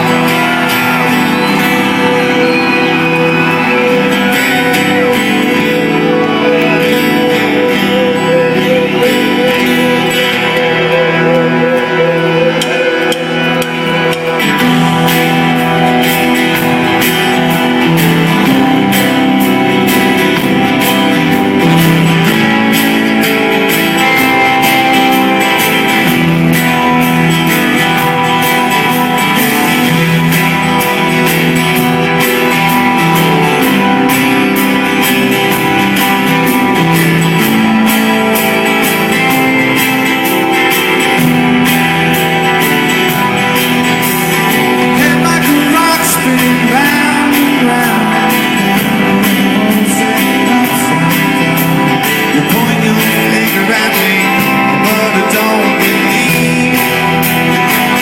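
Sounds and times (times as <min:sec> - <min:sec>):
guitar-led rock music: 0:00.0 - 0:58.0.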